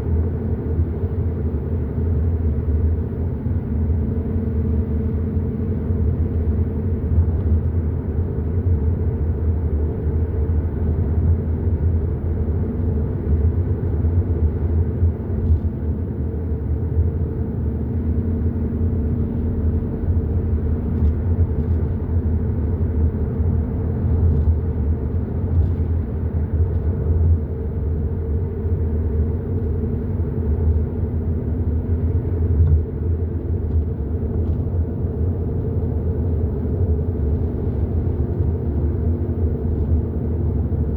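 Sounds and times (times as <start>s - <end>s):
car engine rumble: 0.0s - 40.9s
tyre road noise: 0.0s - 40.9s.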